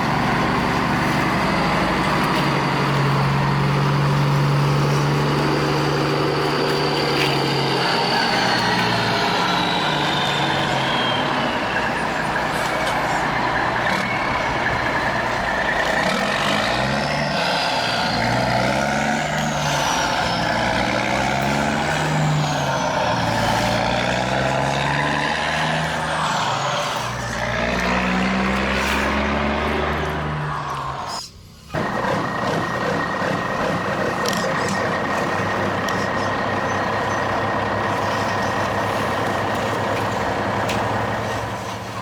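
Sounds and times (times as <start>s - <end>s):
toy truck engine drone: 0.0s - 42.0s.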